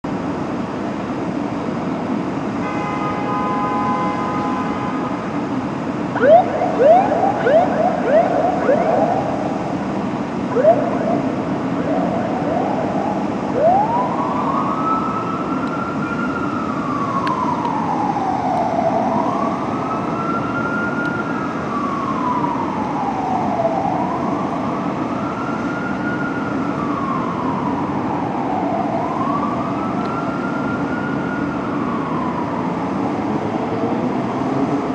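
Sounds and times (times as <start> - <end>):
fire engine siren: 1.1 - 34.9.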